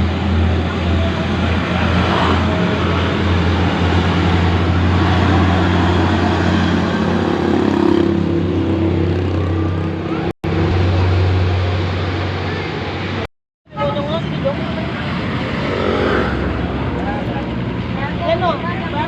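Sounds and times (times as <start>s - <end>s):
truck diesel engine labouring uphill: 0.0s - 19.0s.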